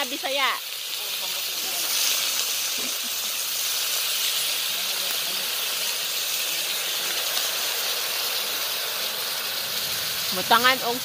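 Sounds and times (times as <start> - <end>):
chicken sizzling in a pot: 0.0 - 11.0.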